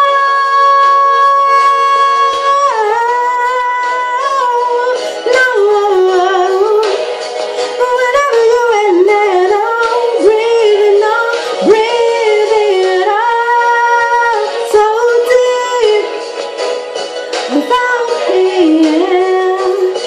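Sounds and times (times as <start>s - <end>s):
woman singing a ballad: 0.0s - 16.3s, 17.5s - 20.0s.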